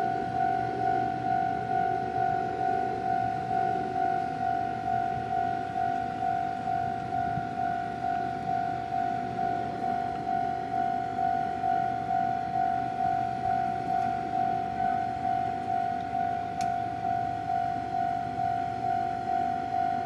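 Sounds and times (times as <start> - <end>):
level-crossing warning bell ringing: 0.0 - 20.0.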